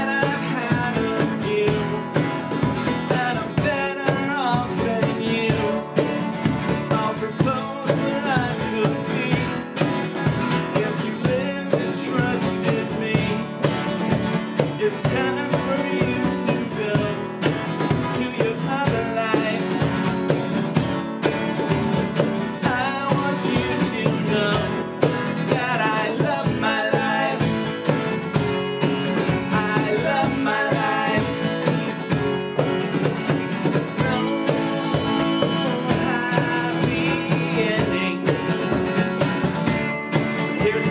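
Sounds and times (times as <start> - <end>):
person singing: 0.0 - 9.8, 10.6 - 13.8, 14.6 - 20.3, 22.5 - 40.9
cajon beat: 0.0 - 40.9
strummed acoustic guitars: 0.0 - 40.9.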